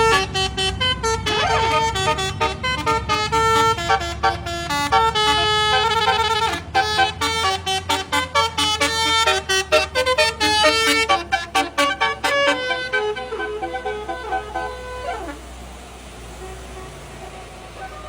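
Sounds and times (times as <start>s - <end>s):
bus engine humming: 0.0s - 18.0s
musical bus horn melody: 0.0s - 18.0s.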